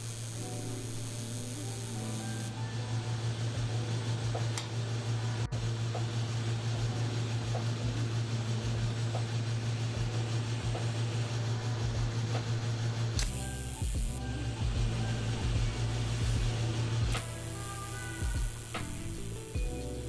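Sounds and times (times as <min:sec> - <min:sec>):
welding machine electrical hum: 0:00.0 - 0:20.0.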